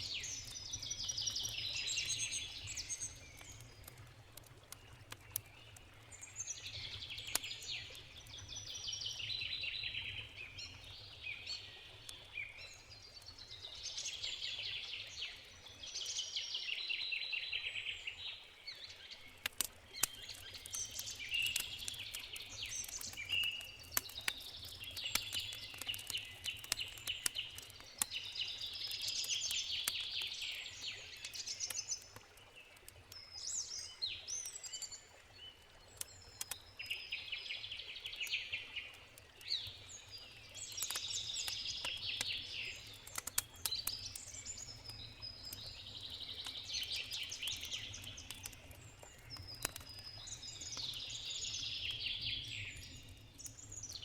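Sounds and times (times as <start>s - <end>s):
campfire crackling and popping: 0.0s - 16.0s, 18.6s - 54.0s.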